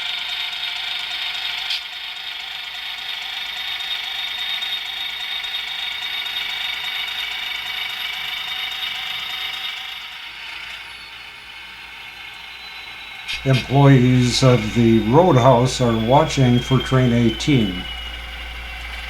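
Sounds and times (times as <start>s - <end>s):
model train rattling on rails: 0.0s - 19.0s.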